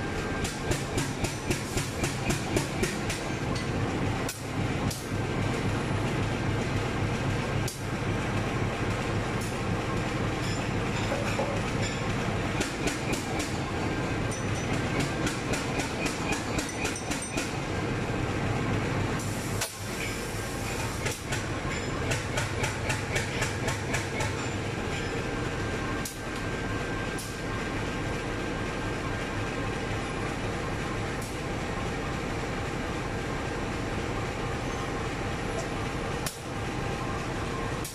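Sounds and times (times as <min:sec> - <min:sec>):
diesel locomotive engine idling: 0:00.0 - 0:37.9.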